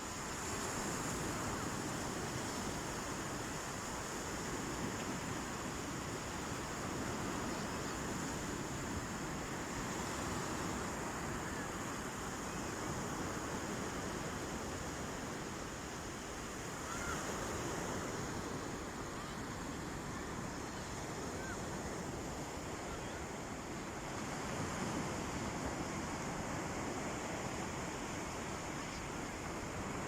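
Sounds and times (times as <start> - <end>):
sea waves washing onto beach: 0.0 - 30.0.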